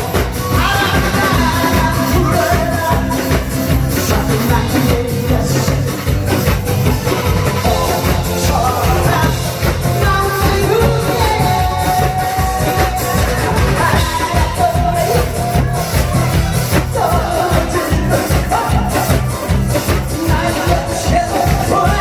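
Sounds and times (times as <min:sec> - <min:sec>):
amplified live pop singing: 0:00.0 - 0:22.0
musical accompaniment with beat: 0:00.0 - 0:22.0.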